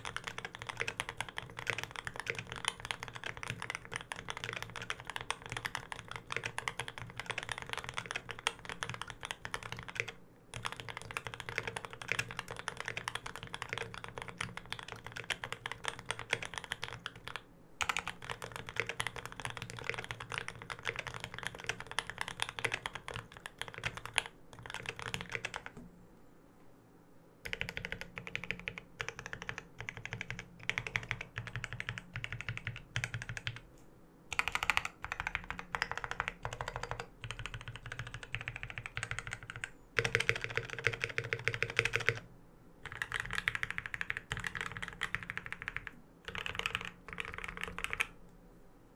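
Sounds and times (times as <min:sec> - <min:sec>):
fast mechanical keyboard typing: 0:00.0 - 0:25.8, 0:27.4 - 0:33.7, 0:34.3 - 0:48.2.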